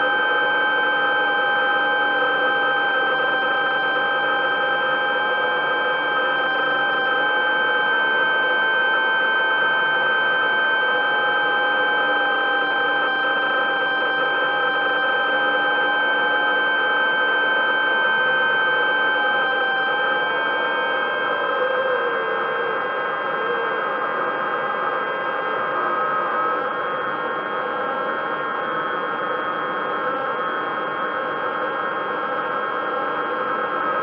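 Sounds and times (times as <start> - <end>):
machine whine with high tones: 0.0 - 34.0.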